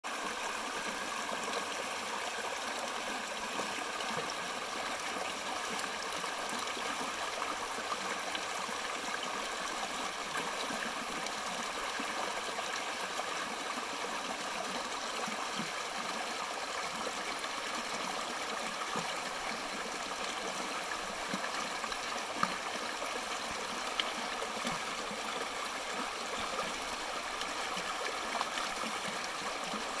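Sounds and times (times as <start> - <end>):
brook babbling over stones: 0.0 - 30.0.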